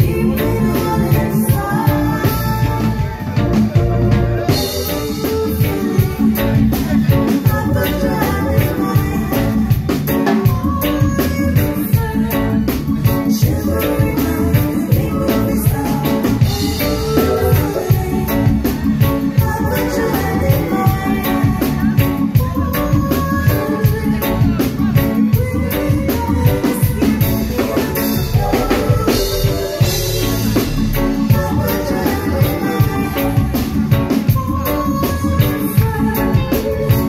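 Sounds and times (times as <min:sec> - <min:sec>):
live reggae band playing: 0:00.0 - 0:37.0
woman singing into a microphone: 0:00.0 - 0:37.0.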